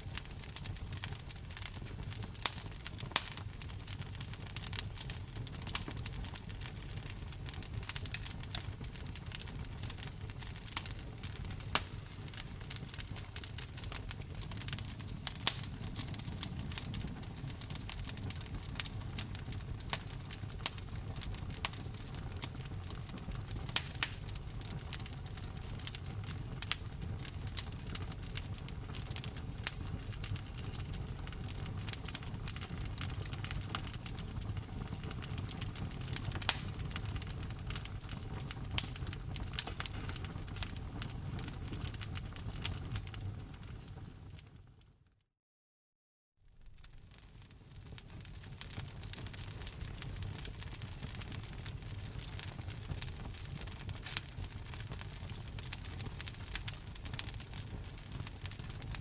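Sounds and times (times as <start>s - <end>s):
wood fire crackling: 0.0s - 44.9s, 46.5s - 59.0s.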